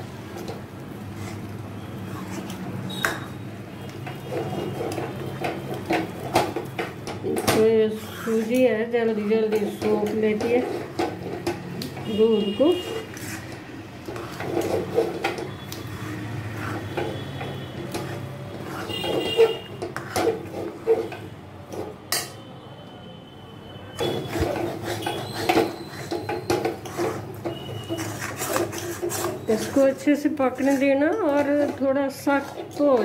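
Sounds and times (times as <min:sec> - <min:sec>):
metal spoon scraping a pan: 0:00.4 - 0:22.5, 0:24.0 - 0:33.0.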